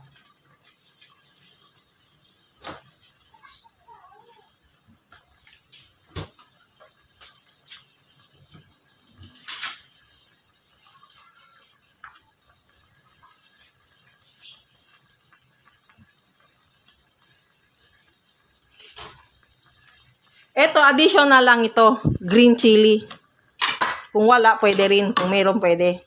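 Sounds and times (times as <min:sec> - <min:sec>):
broth simmering with hiss and pops: 0:00.0 - 0:26.0.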